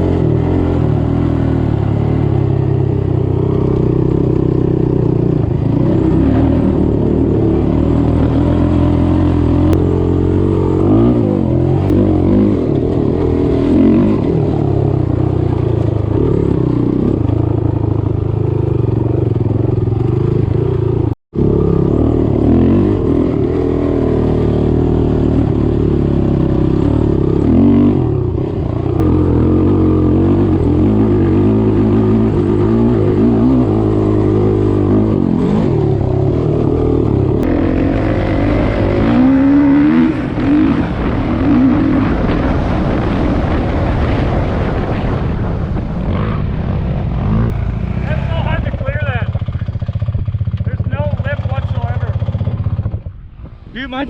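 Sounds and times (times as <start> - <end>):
off-road vehicle engine: 0.0 - 54.0.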